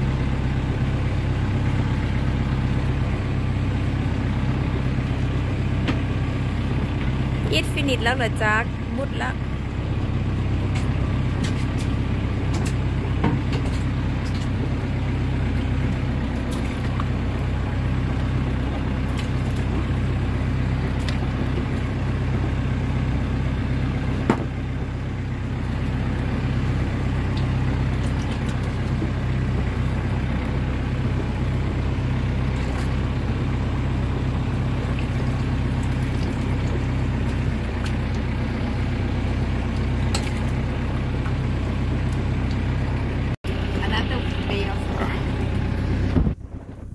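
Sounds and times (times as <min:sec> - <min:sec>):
motorboat engine droning: 0:00.0 - 0:46.9.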